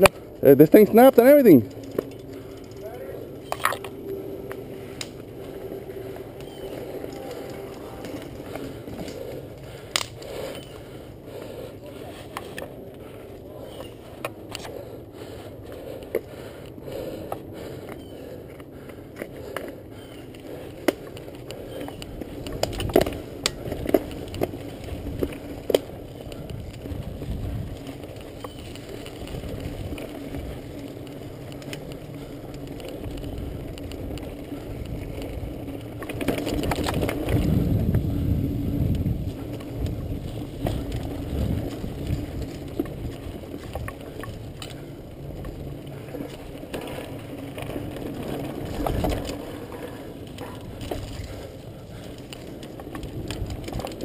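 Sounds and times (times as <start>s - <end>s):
bike rattling: 0.0s - 54.0s
bike tyres rumbling on dirt: 0.0s - 54.0s
clicks and knocks over bumps: 1.4s - 11.6s, 15.6s - 54.0s.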